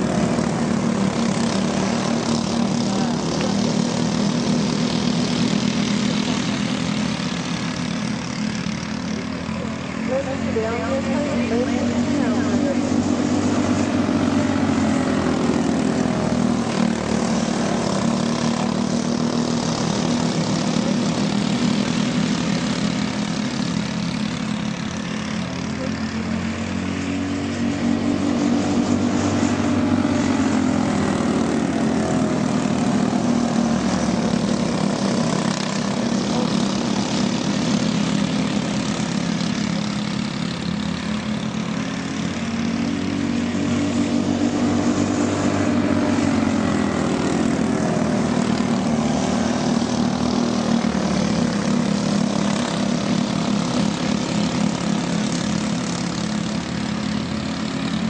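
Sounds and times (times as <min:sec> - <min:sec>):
racing kart engines buzzing: 0:00.0 - 0:58.0.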